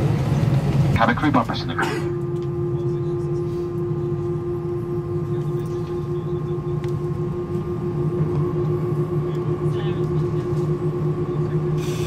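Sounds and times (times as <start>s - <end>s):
aircraft cabin hum: 0.0s - 12.0s
mid-pitched whine: 0.0s - 12.0s
faint high whine: 1.0s - 12.0s.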